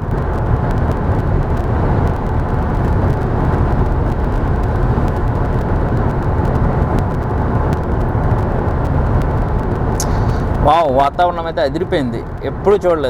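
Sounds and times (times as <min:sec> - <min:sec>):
car road noise at speed: 0:00.0 - 0:13.0.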